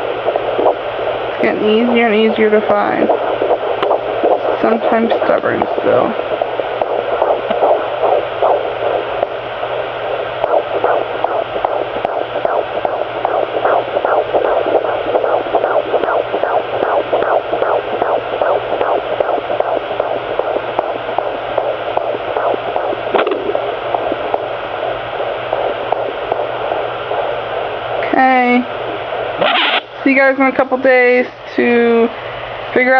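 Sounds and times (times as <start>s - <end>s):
rapid whooshing heartbeat pulse: 0.0s - 30.3s
low hum: 0.0s - 32.8s
static hiss: 0.0s - 32.9s.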